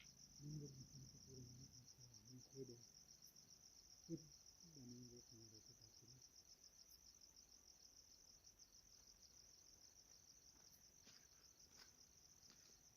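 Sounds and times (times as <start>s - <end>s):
crickets chirping: 0.0s - 12.9s.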